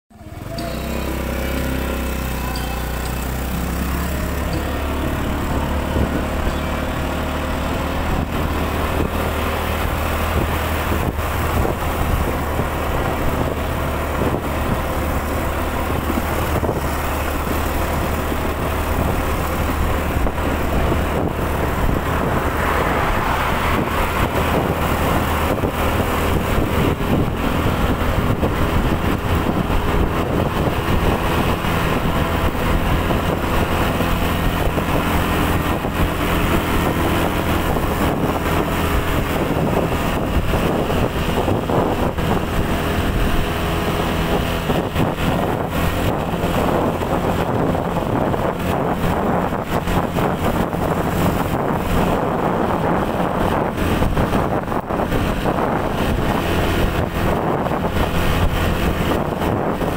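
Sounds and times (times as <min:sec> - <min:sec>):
motorcycle engine running: 0:00.1 - 0:59.9
wind rushing on microphone: 0:00.2 - 0:59.9.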